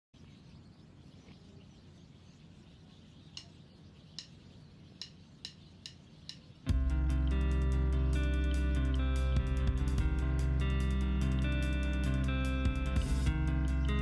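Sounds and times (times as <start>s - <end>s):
small bird chirping: 0.2s - 14.0s.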